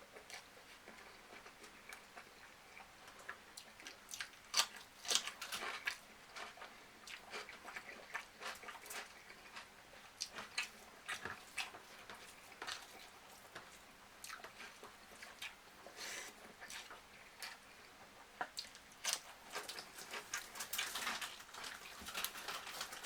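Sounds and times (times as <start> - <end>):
person chewing wetly: 0.0 - 23.0.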